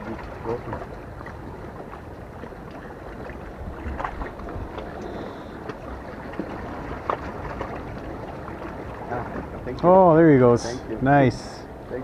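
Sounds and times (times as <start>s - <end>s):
seawater washing against rocks: 0.0s - 12.0s
wind rumbling on microphone: 0.0s - 12.0s.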